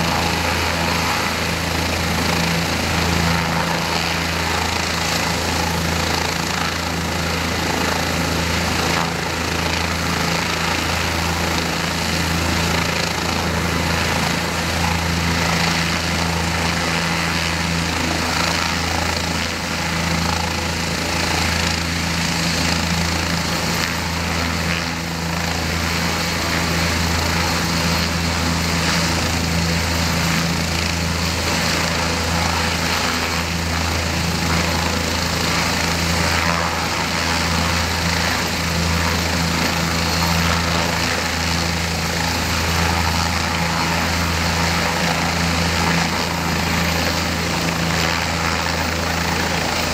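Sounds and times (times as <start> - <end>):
helicopter engine and rotor running: 0.0 - 49.9.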